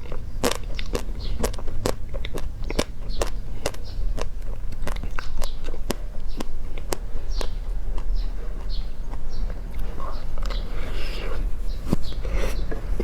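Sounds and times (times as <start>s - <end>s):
crunching crisp food: 0.0s - 13.0s.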